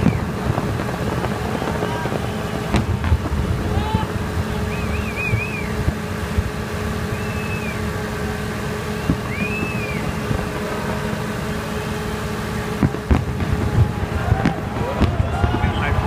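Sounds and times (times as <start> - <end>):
fireworks bangs and crackles: 0.0 - 16.0
high firework whistles: 0.0 - 16.0.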